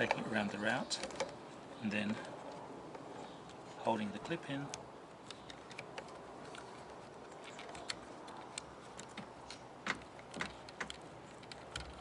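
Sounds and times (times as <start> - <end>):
plastic and wire clicking: 0.0 - 12.0.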